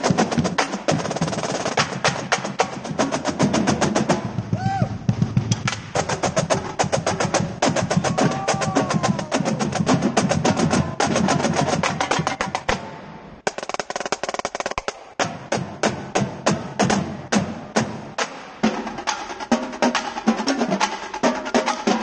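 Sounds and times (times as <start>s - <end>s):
snare drumline playing: 0.0s - 22.0s.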